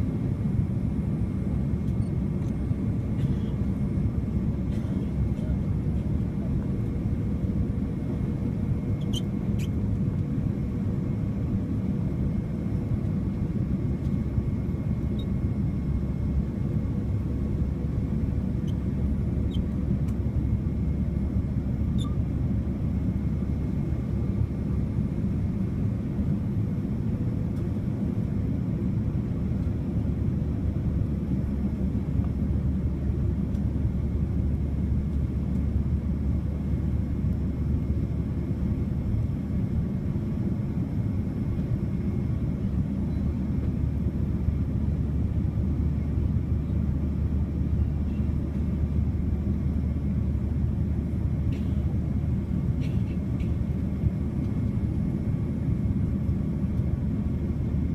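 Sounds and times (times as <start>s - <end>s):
airplane cabin rumble: 0.0s - 57.9s
faint steady hums: 0.0s - 57.9s.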